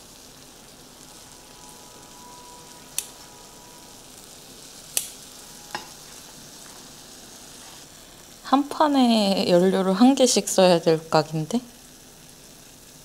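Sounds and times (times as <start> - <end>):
meat sizzling in a grill pan: 0.0 - 13.0.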